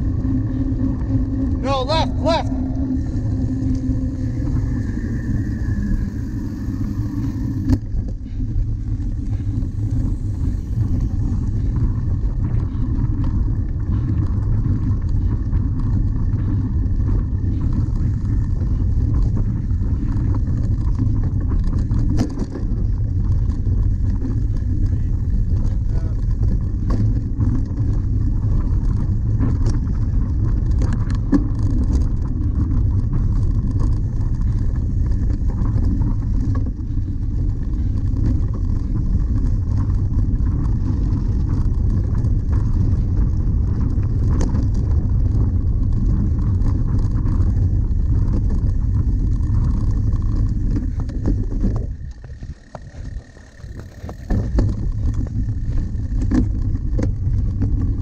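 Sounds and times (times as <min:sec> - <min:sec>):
bike clicks and rattles: 0:00.0 - 0:58.0
wind rumbling on microphone: 0:00.0 - 0:58.0.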